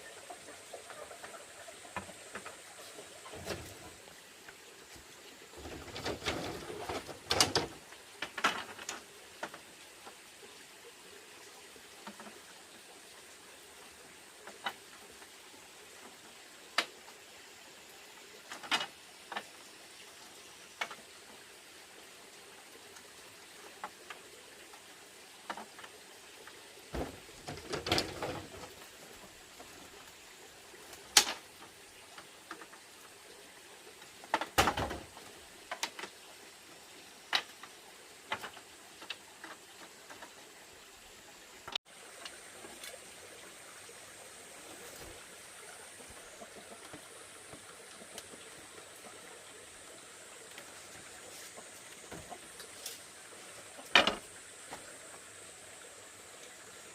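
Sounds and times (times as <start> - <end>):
faint steady hiss: 0.0 - 56.9.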